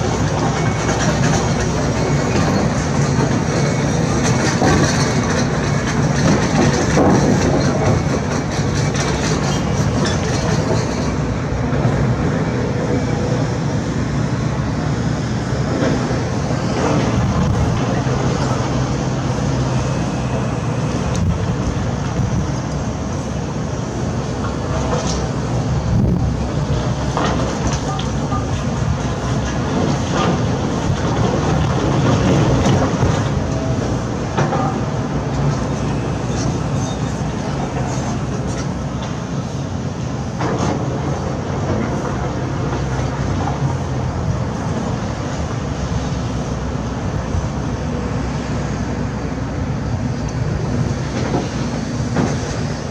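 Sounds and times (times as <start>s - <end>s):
diesel engine droning: 0.0s - 52.9s.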